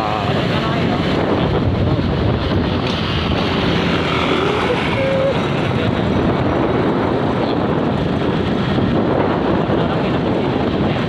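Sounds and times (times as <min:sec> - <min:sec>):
traffic rushing: 0:00.0 - 0:11.0
wind on microphone: 0:00.0 - 0:11.0.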